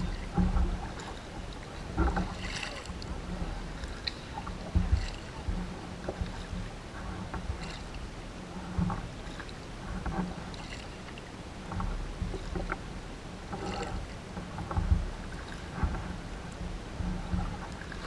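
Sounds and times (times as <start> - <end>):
paddles splashing in water: 0.0 - 18.0
steady low rumble: 0.0 - 18.0.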